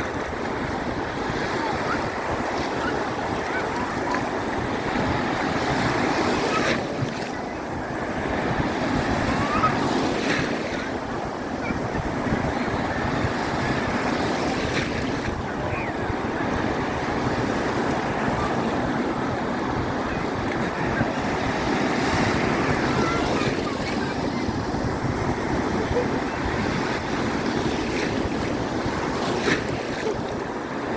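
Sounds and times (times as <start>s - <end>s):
strong sea waves surging: 0.0s - 30.9s
wind on microphone: 0.0s - 30.9s.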